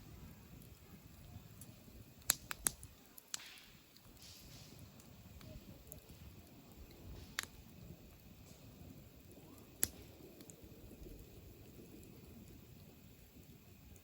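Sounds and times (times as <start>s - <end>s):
burning wood popping: 0.0s - 14.0s
campfire rumble: 0.0s - 14.0s.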